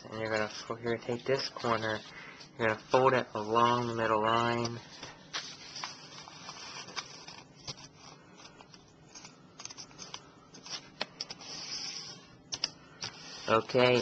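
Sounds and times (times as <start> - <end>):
paper folding rustle: 0.0 - 14.0.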